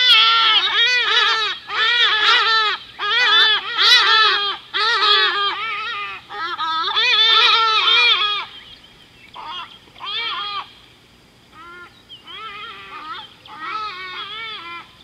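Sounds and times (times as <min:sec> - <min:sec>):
animal warbling cries: 0:00.0 - 0:08.7, 0:09.4 - 0:10.8, 0:11.5 - 0:15.0.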